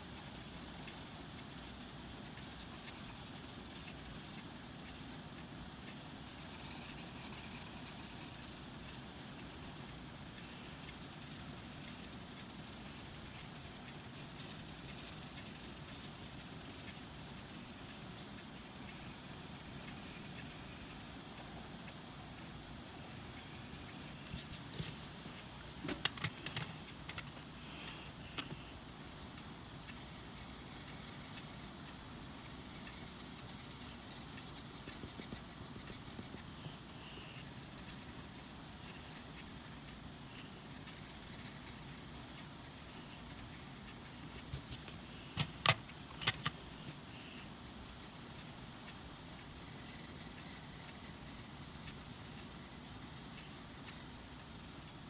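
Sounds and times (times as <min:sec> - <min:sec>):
pencils scratching on paper: 0:00.0 - 0:25.5, 0:26.2 - 0:45.0, 0:49.6 - 0:55.0.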